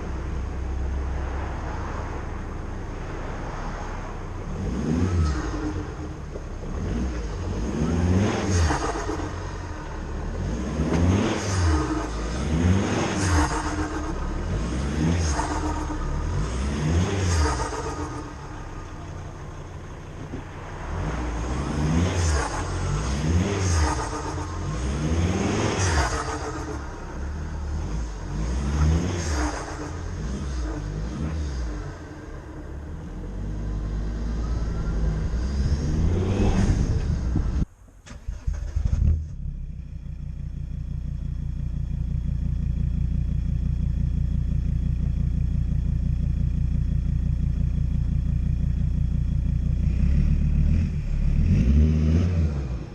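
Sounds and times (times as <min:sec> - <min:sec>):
diesel engine revving: 0:04.3 - 0:52.9.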